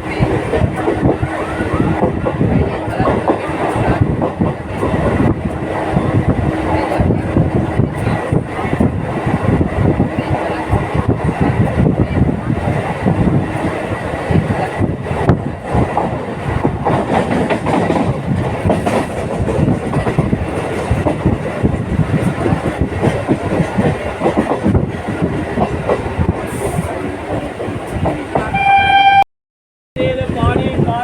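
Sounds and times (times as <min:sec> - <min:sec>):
wheels clacking over rail joints: 0:00.0 - 0:28.5
train coaches rumbling: 0:00.0 - 0:29.2, 0:30.0 - 0:31.0.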